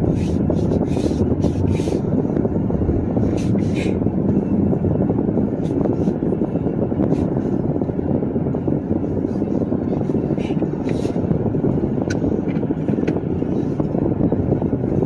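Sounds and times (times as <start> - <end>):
low rumble of engine and road: 0.0 - 15.0.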